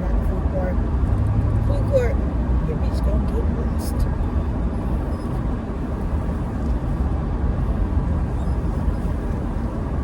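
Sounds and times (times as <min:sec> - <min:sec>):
car engine rumble and road noise: 0:00.0 - 0:10.0.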